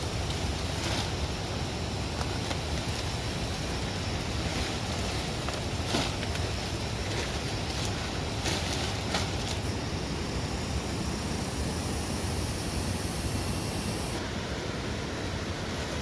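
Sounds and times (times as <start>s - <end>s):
faint high hiss: 0.0s - 16.0s.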